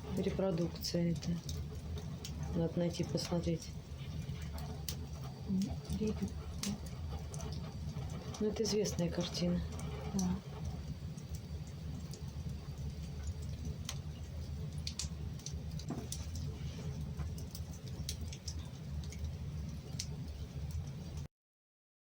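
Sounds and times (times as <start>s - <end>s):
wood fire crackling: 0.0s - 21.3s.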